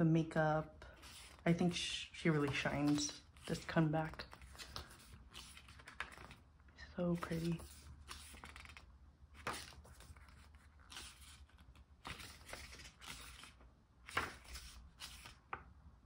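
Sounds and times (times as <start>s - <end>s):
pages turning: 0.9s - 1.4s, 2.3s - 6.5s, 7.1s - 15.7s
paper rustling: 0.9s - 1.4s, 2.2s - 6.4s, 7.2s - 15.7s.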